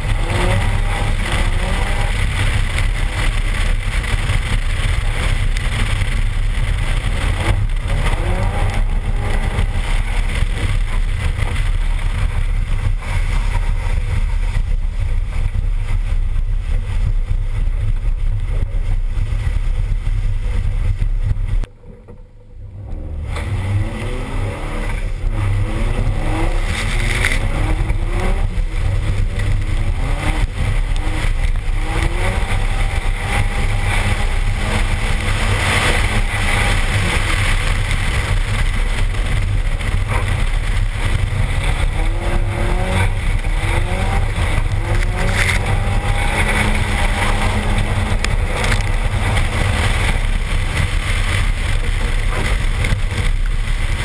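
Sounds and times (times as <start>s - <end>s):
car engine revving: 0.0s - 54.0s
wind rumble on microphone: 0.0s - 54.0s.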